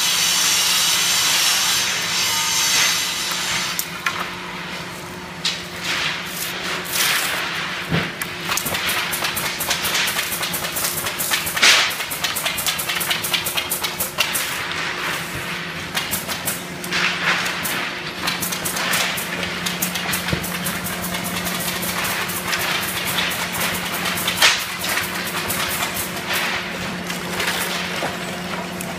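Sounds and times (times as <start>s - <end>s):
factory machinery hum: 0.0s - 28.9s.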